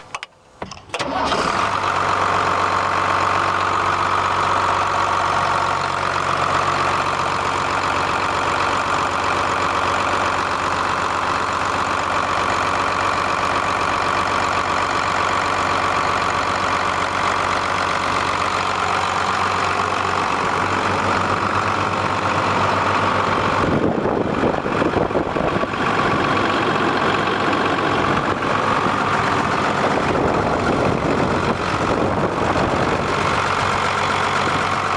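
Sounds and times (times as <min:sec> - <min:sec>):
tractor diesel engine idling: 0:00.9 - 0:34.9.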